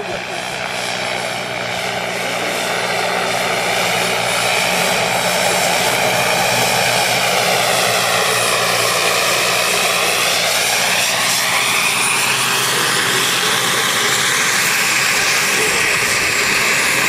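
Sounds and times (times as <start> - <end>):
helicopter rotor noise: 0.0 - 17.0
helicopter turbine whine: 0.0 - 17.0.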